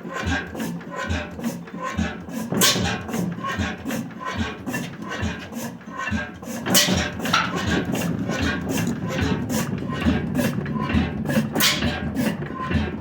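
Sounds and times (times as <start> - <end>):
old gas engine thumping and clattering: 0.0 - 13.0.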